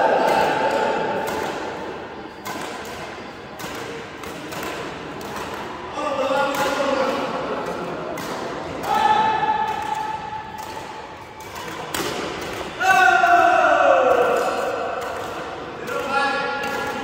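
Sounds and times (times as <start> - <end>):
badminton racket hitting shuttlecock: 0.1 - 12.8, 13.8 - 17.0.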